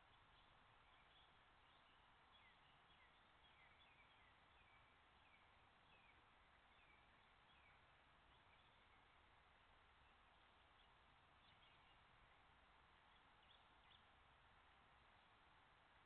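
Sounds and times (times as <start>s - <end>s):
faint microphone hiss: 0.0s - 16.0s.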